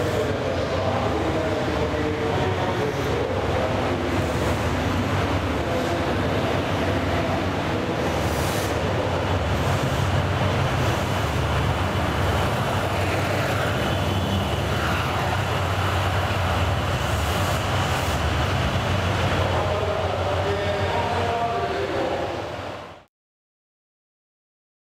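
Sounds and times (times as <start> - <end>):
locomotive diesel engine drone: 0.0 - 22.8
train wheels rumbling on rails: 0.0 - 22.9.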